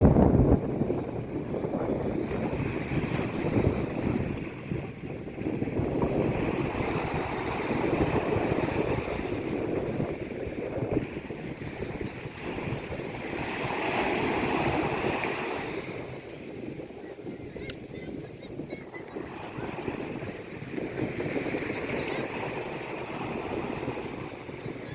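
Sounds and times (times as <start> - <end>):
sea waves breaking on shore: 0.0 - 24.9.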